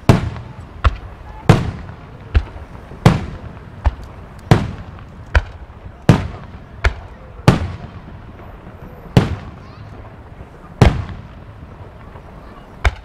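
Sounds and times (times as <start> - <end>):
echoing bangs: 0.0 - 13.0.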